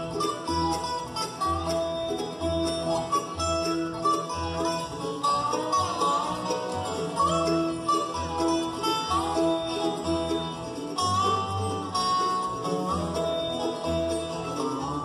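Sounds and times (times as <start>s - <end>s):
banjo: 0.0s - 15.0s
fiddle: 0.0s - 15.0s
mandolin: 0.0s - 15.0s
picked acoustic guitars: 0.0s - 15.0s
upright bass notes: 0.0s - 15.0s.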